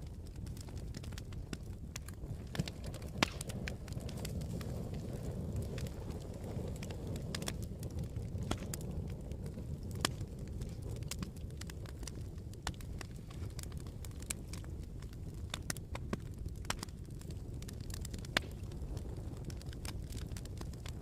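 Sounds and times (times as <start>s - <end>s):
fire crackles and pops: 0.0s - 21.0s
rush of flames: 0.0s - 21.0s.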